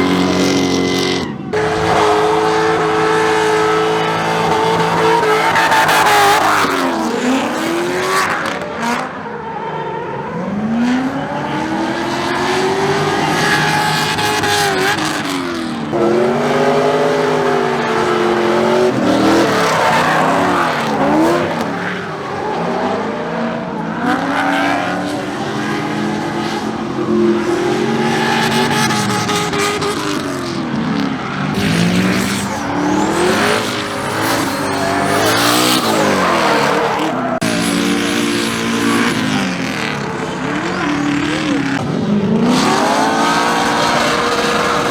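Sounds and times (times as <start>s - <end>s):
car engines revving: 0.0s - 44.9s
tires squealing: 0.0s - 44.9s.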